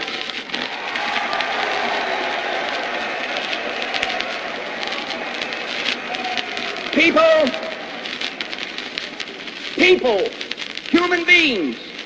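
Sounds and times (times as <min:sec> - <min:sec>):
crowd applauding and cheering: 0:00.0 - 0:10.8.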